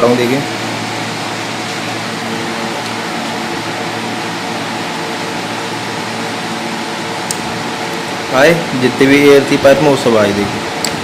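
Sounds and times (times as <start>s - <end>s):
background hum with hiss: 0.0s - 11.0s.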